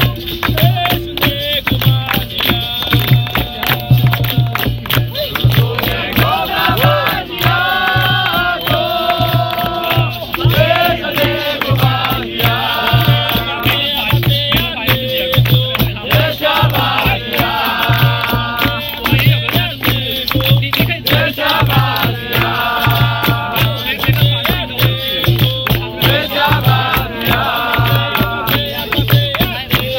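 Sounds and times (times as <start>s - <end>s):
shaken rattling percussion: 0.0s - 29.9s
steady low drum beat: 0.0s - 29.9s
group singing chant lines: 1.2s - 29.9s.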